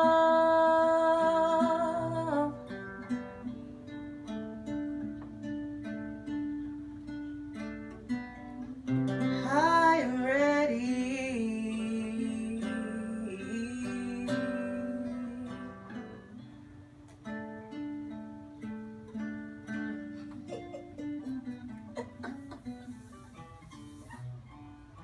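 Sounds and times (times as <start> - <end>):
acoustic guitar plucked notes: 0.0 - 25.0.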